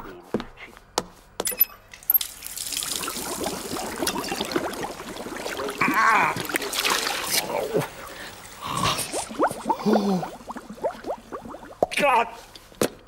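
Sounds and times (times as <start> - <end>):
water splashing: 2.1 - 13.0.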